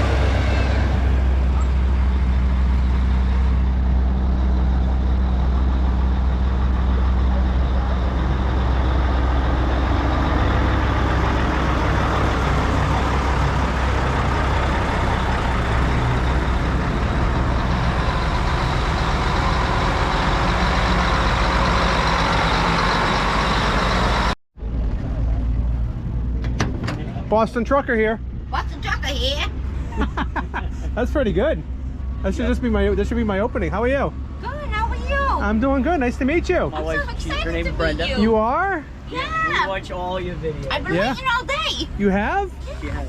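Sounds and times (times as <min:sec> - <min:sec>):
diesel truck engine idling: 0:00.0 - 0:43.0.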